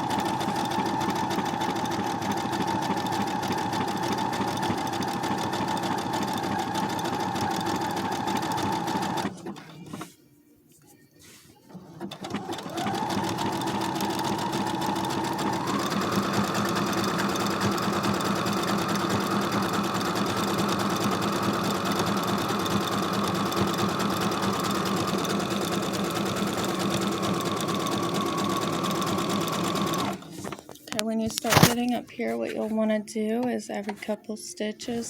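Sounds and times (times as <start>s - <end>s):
sewing machine stitching: 0.0s - 10.1s, 11.7s - 30.7s.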